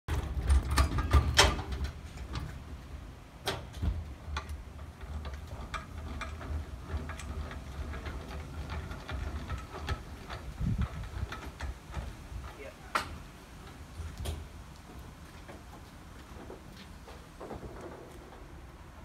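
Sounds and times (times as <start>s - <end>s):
sack truck clicking and knocking: 0.1s - 2.6s, 3.4s - 19.0s.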